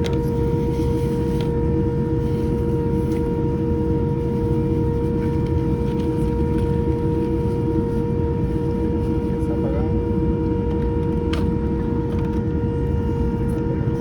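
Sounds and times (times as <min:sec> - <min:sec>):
airplane cabin rumble: 0:00.0 - 0:14.0
steady tonal hum: 0:00.0 - 0:14.0.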